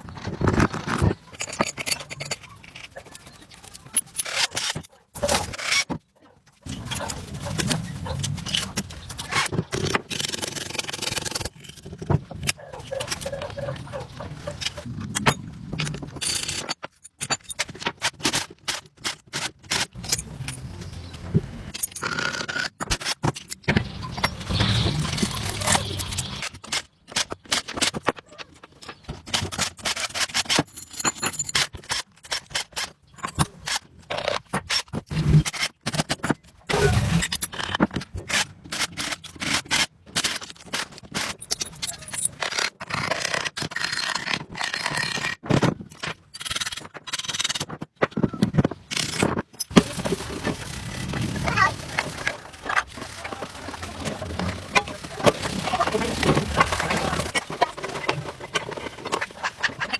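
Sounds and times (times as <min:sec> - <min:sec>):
scraping and rubbing with rattling: 0:00.0 - 0:59.9.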